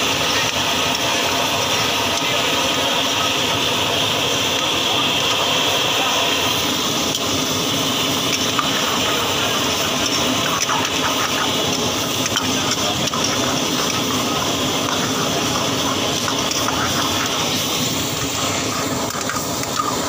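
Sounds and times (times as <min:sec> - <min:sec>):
food frying in a pan: 0:00.0 - 0:20.0.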